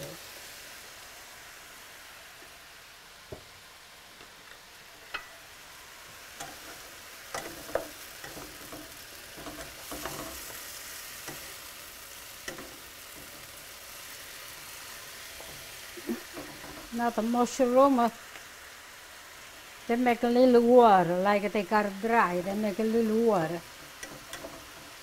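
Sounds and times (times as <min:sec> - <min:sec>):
mushrooms sizzling in frying pan: 0:00.0 - 0:25.0.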